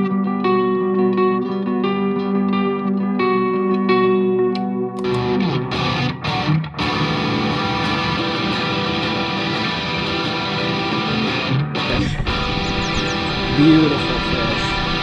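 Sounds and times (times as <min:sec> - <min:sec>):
band music with electric guitar: 0:00.0 - 0:15.0.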